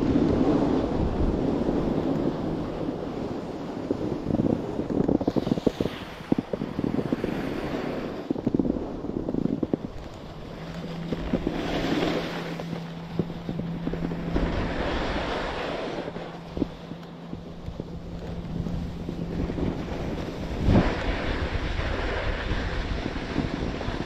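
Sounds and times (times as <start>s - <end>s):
steady low hum: 0.0s - 24.0s
wind rushing over microphone: 0.0s - 24.0s
skis sliding on snow: 0.1s - 24.0s.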